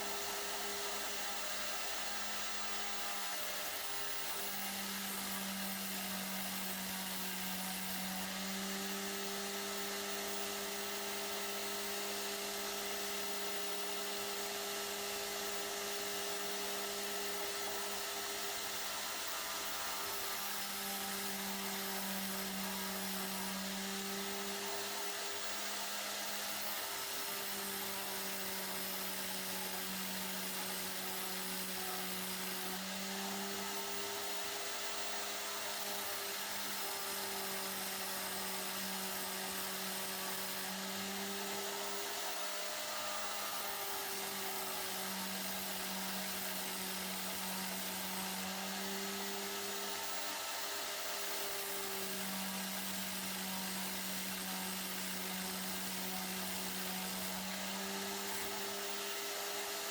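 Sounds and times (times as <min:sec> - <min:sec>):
power tool motor whining: 0:00.0 - 0:59.9.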